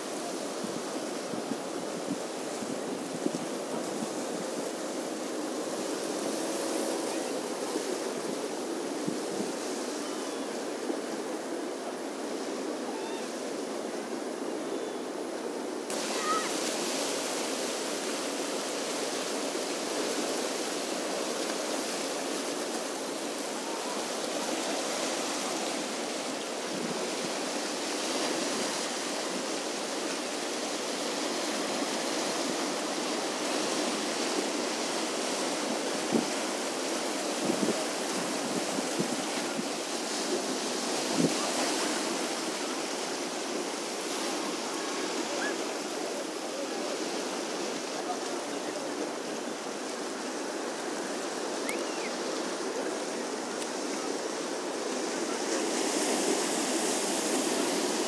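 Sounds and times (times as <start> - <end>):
waves breaking over rocks: 0.0 - 58.0.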